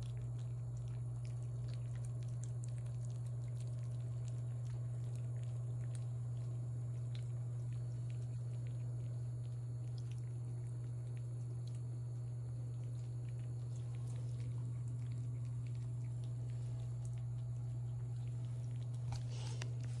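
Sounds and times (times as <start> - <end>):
kittens chewing and lapping: 0.0 - 20.0
low steady hum: 0.0 - 20.0.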